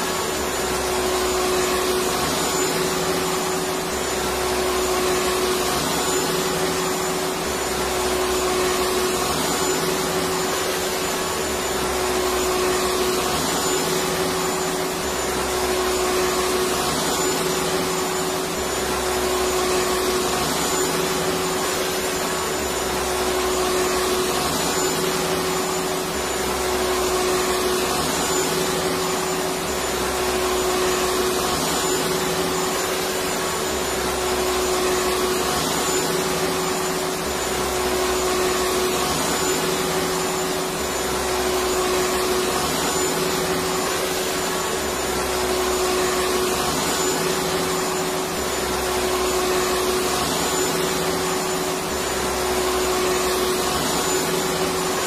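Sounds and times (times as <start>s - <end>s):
vacuum cleaner motor running: 0.0s - 55.0s.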